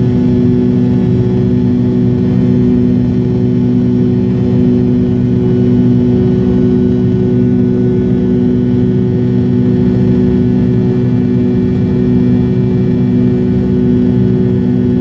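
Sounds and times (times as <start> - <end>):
airplane cabin engine drone: 0.0 - 15.0
low hum tones: 0.0 - 15.0.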